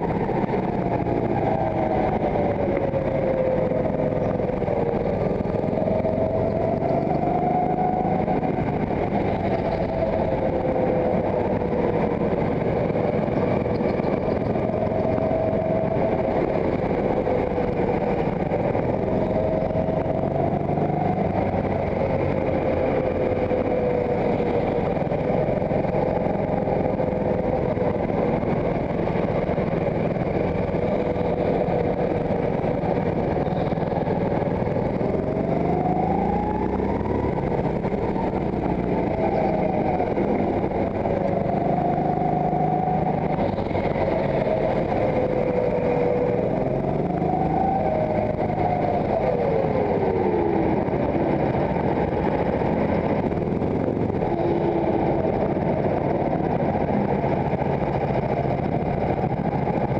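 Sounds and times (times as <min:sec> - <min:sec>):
go-kart engine at speed: 0:00.0 - 0:59.9.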